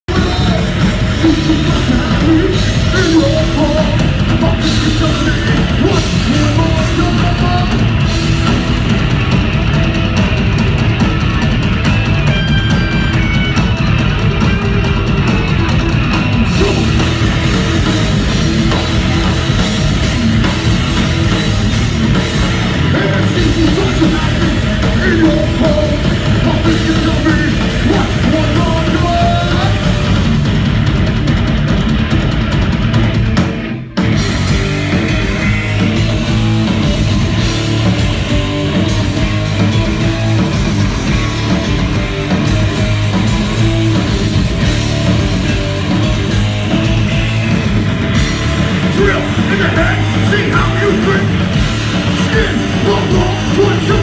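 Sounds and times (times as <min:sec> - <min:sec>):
distorted electric guitar: 0:00.0 - 0:54.0
drum kit: 0:00.0 - 0:54.0.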